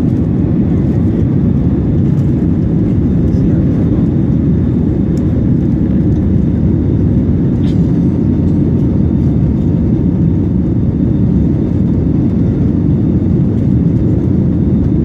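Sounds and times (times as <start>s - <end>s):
airplane engine rumble: 0.0s - 15.0s.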